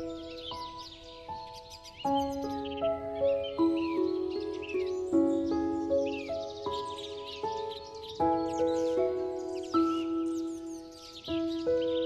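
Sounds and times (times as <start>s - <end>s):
birds chirping and twittering: 0.0s - 12.0s
slow gentle piano notes: 0.0s - 12.0s.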